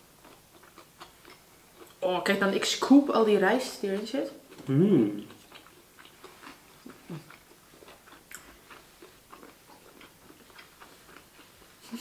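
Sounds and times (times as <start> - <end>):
chewing and eating: 0.0 - 2.9, 3.9 - 12.0.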